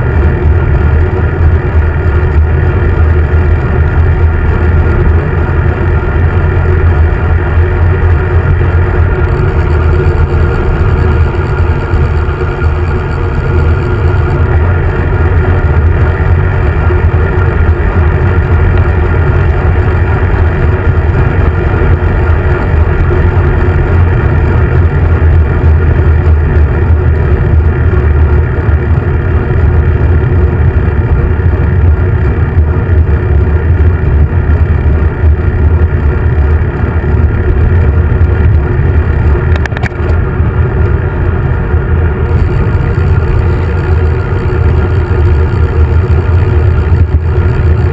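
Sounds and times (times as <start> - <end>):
car traffic: 0.0 - 47.9
road vibration rumble: 0.0 - 47.9.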